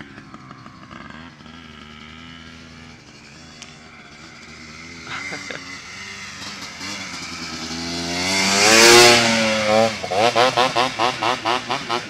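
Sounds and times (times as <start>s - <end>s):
quad engine revving: 0.0s - 12.0s.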